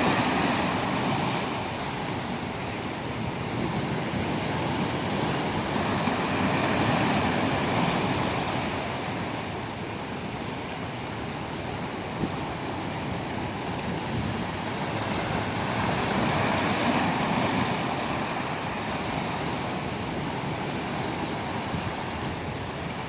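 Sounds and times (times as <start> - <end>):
ocean surf washing in: 0.0 - 23.0.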